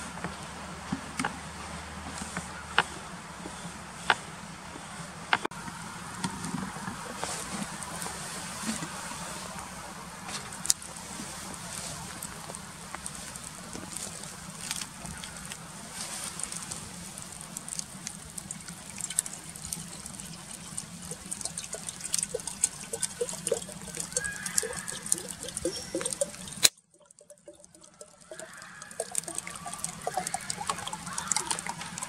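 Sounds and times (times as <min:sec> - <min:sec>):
water pouring and gurgling: 0:05.5 - 0:32.0
wood fire crackling: 0:05.5 - 0:32.0.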